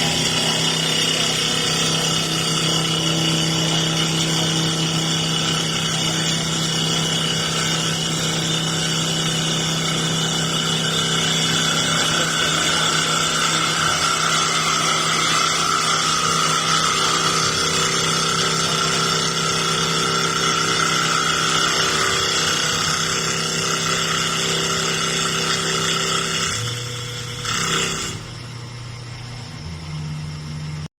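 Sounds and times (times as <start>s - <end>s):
lathe humming and whining: 0.0s - 30.9s.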